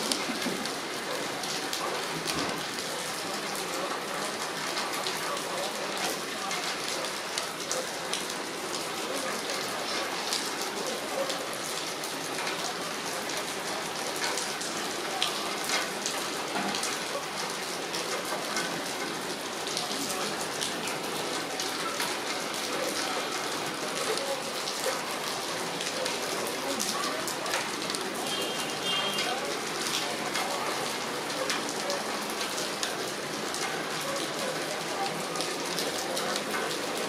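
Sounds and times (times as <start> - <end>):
heavy rain falling: 0.0 - 37.0
raindrops ticking on surfaces: 0.0 - 37.0.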